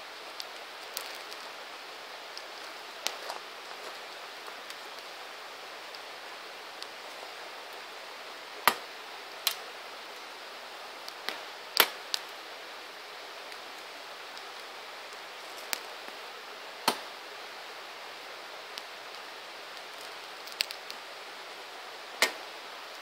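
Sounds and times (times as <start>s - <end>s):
campfire hissing: 0.0s - 23.0s
fire crackling pops: 0.1s - 23.0s.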